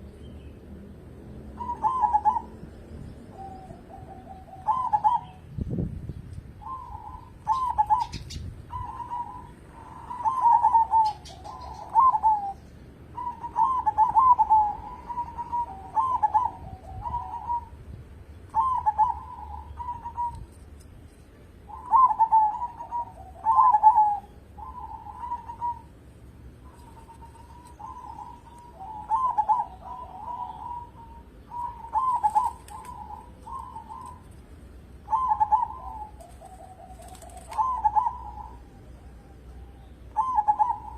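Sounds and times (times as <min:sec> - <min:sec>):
dove cooing: 0:01.5 - 0:05.5, 0:06.6 - 0:17.9, 0:18.5 - 0:20.6, 0:21.6 - 0:26.0, 0:26.6 - 0:40.9.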